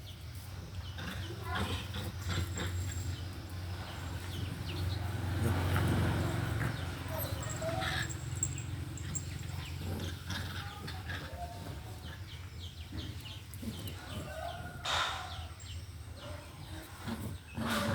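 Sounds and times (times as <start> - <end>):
birds chirping: 0.0 - 17.9.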